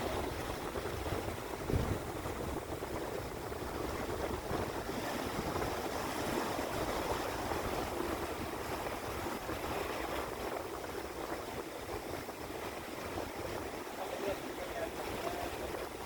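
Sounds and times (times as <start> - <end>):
sea waves washing: 0.0 - 16.0.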